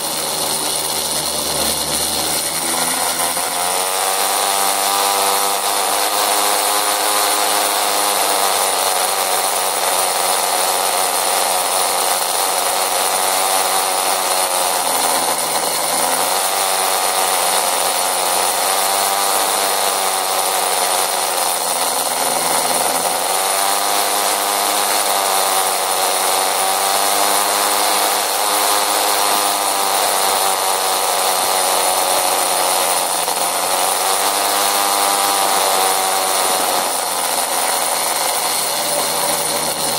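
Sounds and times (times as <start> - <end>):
motor scooter engine buzzing: 0.0 - 39.9.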